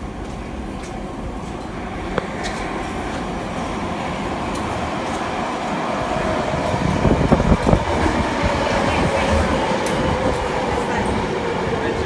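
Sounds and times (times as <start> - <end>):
subway train rumbling past: 0.0 - 12.0.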